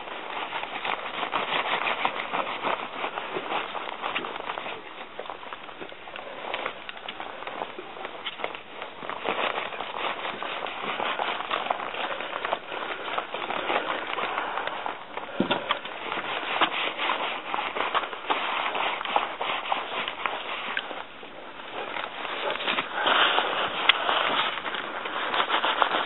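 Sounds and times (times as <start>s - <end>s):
stiff brush scratching dog's coat: 0.0s - 26.0s.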